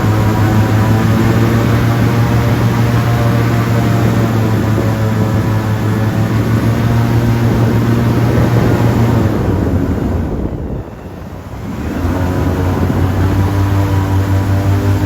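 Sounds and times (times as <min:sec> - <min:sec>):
airboat engine and propeller: 0:00.0 - 0:15.0.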